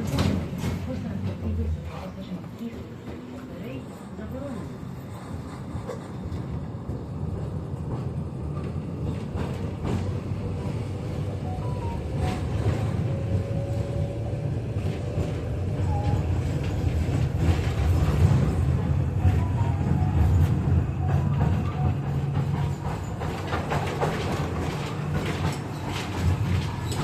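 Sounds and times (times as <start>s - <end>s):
tram rumbling on rails: 0.0s - 27.0s.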